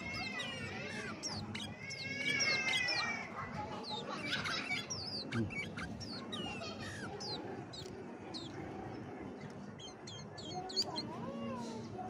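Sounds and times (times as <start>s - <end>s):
bulbul chirping: 0.0s - 3.0s, 3.8s - 8.7s, 9.4s - 11.2s.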